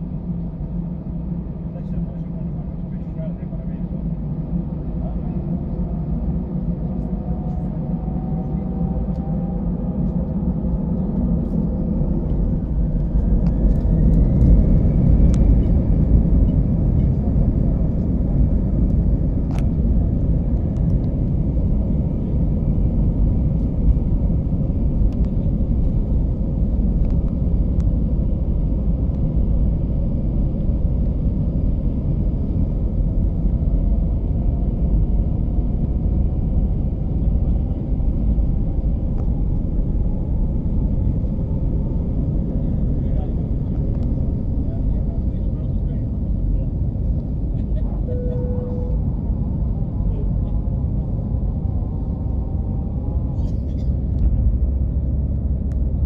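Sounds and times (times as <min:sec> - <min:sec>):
wheels rumbling on runway: 0:00.0 - 0:56.0.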